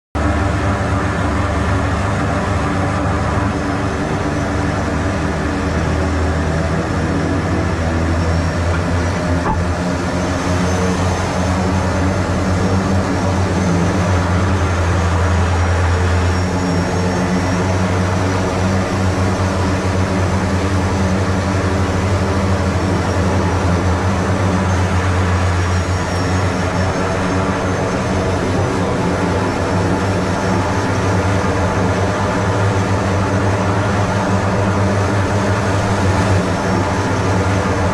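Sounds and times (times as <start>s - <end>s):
aircraft engines droning: 0.2s - 37.9s.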